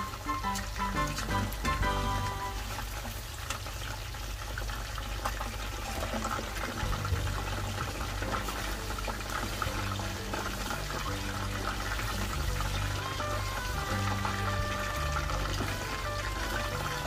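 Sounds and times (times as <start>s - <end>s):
background music: 0.0s - 2.9s, 5.8s - 17.0s
water running: 0.0s - 17.0s.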